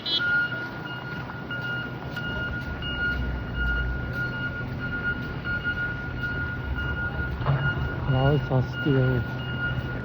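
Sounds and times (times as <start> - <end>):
backup alarm beeping: 0.0 - 10.0
truck engines rumbling: 0.0 - 10.0.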